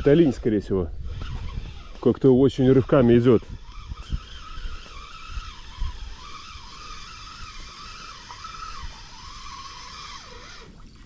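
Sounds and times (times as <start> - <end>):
fishing reel gears whirring: 0.0 - 11.0.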